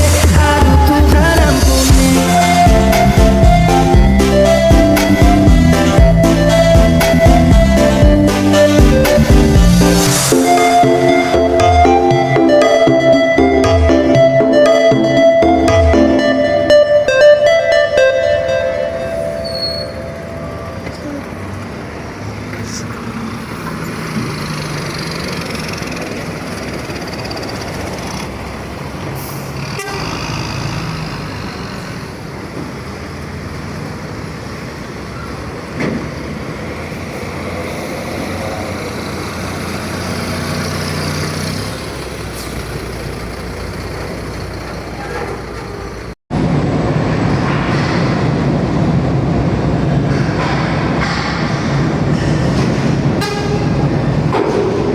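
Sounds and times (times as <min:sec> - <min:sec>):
road noise: 0:00.0 - 0:54.9
truck engine running: 0:00.0 - 0:54.9.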